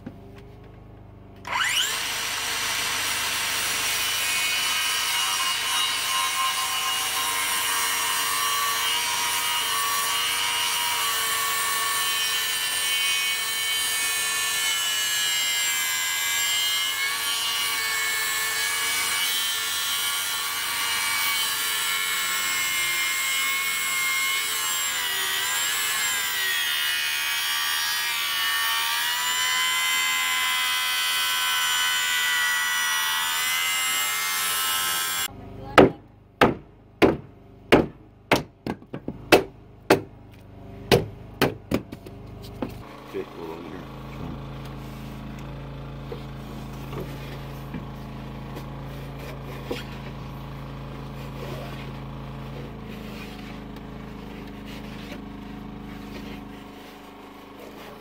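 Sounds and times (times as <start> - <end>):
circular saw cutting wood: 1.4 - 35.3, 42.8 - 58.0.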